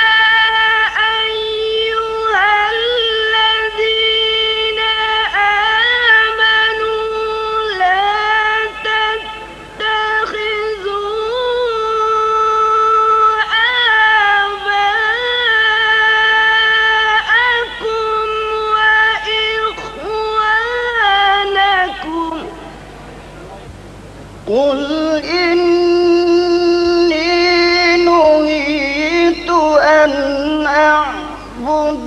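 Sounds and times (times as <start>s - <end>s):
girl reciting melodically: 0.0s - 23.0s, 24.5s - 32.0s.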